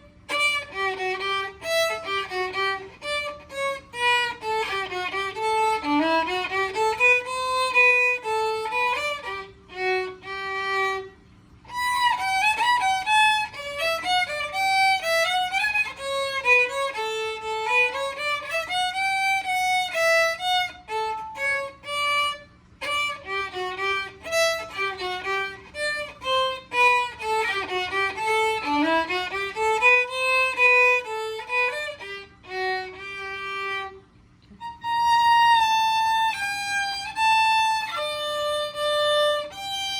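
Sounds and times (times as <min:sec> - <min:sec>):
solo violin melody: 0:00.0 - 0:39.9.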